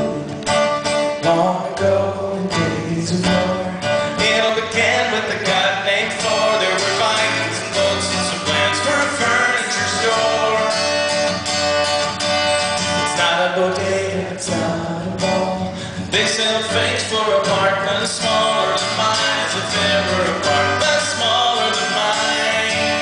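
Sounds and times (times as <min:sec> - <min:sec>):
strummed acoustic guitar: 0:00.0 - 0:23.0.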